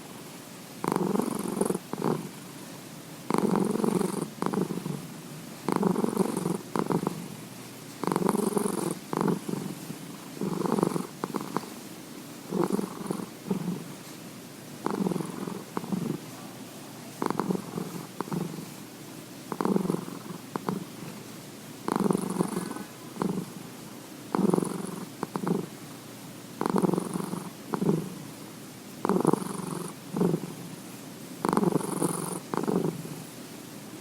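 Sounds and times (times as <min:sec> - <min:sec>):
cat purring: 0:00.8 - 0:02.5, 0:03.2 - 0:14.2, 0:14.8 - 0:18.8, 0:19.5 - 0:23.7, 0:24.3 - 0:25.8, 0:26.6 - 0:28.2, 0:29.0 - 0:30.8, 0:31.4 - 0:33.3.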